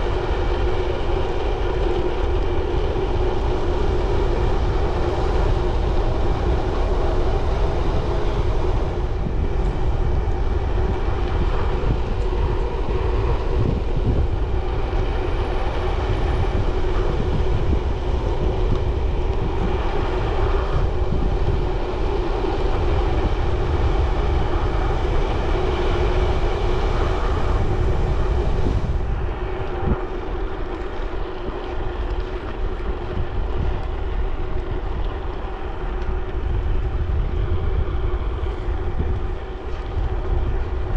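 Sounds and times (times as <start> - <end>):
tyres humming on road: 0.0 - 40.9
wind buffeting microphone: 0.0 - 40.9.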